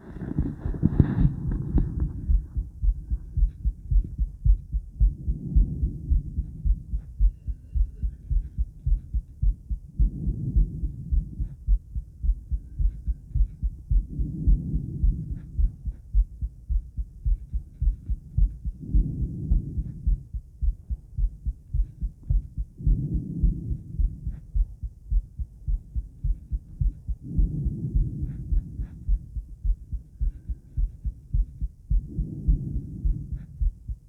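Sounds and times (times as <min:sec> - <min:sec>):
heartbeat thumps: 0:00.0 - 0:34.0.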